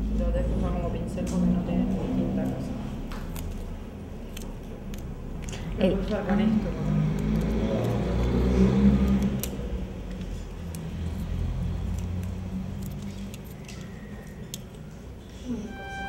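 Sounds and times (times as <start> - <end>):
passing motor vehicle rumble: 0.0 - 16.0.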